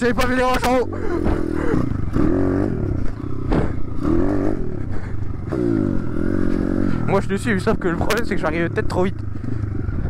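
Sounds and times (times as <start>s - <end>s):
bike rattle: 0.0s - 9.7s
dirt bike engine revving: 0.0s - 10.0s.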